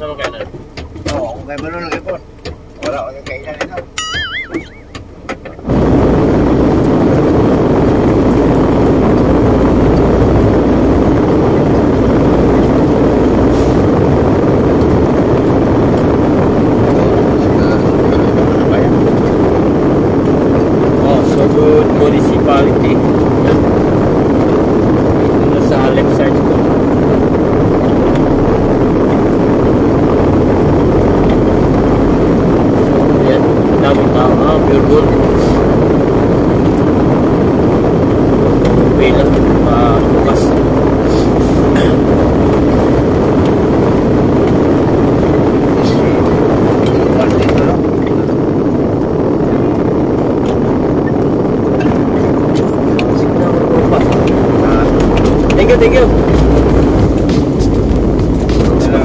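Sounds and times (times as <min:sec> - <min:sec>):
truck engine and road rumble: 0:00.0 - 0:59.0.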